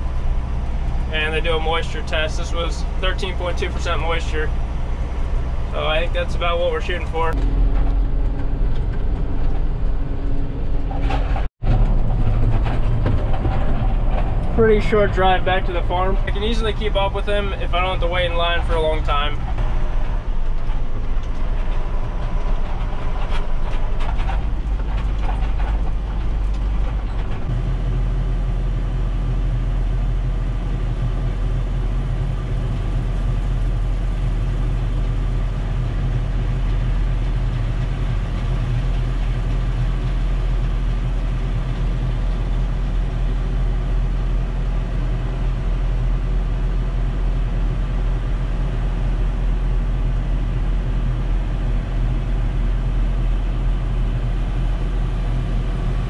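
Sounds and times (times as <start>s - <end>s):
deep steady drone: 0.0s - 56.0s
tractor engine running: 0.0s - 56.0s
clatter: 6.4s - 27.7s, 30.6s - 56.0s.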